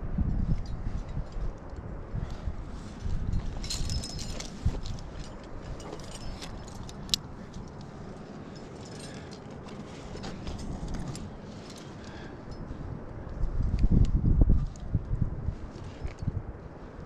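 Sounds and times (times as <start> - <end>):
metal climbing gear clinking: 0.3 - 13.8, 15.6 - 17.0.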